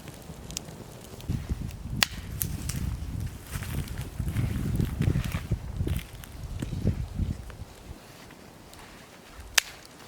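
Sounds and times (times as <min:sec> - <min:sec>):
wind buffeting microphone: 0:00.3 - 0:09.8.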